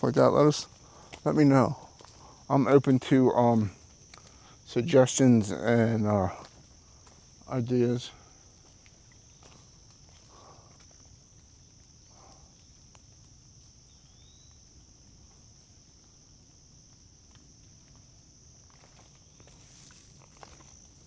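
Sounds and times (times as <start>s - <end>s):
soft footsteps on dirt trail: 0.0s - 21.0s.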